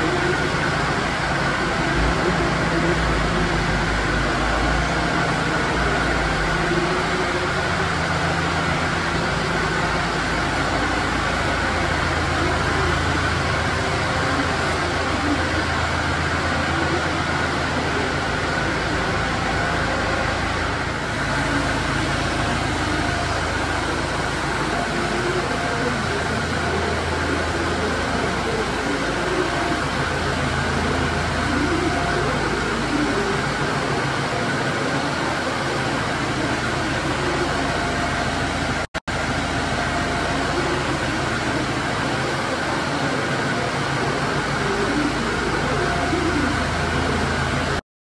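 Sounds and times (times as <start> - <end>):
diesel tractor engine idling: 0.0 - 47.8.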